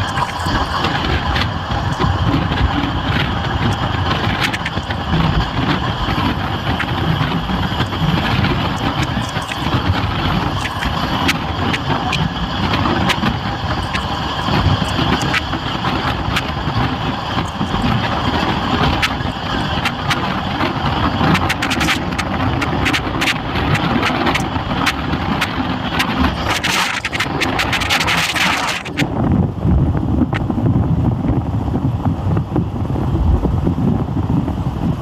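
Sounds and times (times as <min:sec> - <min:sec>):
sharp clicks and rattles: 0:00.0 - 0:29.3
train rumbling along track: 0:00.0 - 0:35.0.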